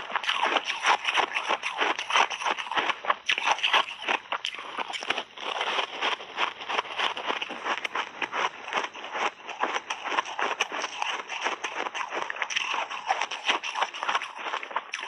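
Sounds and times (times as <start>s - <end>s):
frozen berries crunching: 0.0s - 15.0s.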